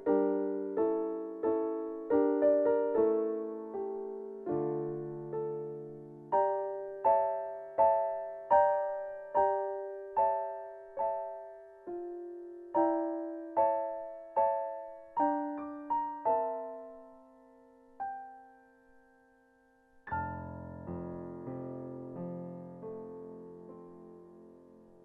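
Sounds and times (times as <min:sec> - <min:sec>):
slow gentle piano: 0:00.0 - 0:25.0.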